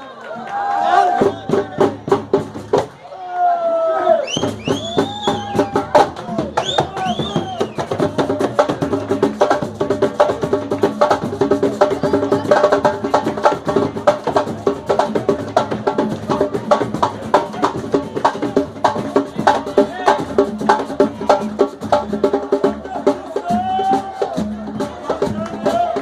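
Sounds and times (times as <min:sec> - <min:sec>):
samba percussion ensemble: 0:01.0 - 0:03.0, 0:04.3 - 0:26.0.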